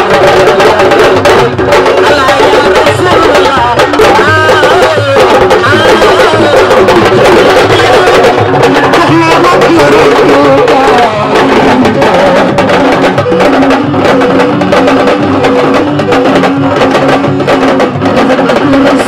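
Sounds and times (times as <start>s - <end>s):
fast hand drumming: 0.0s - 19.0s
held melody line: 0.0s - 19.0s.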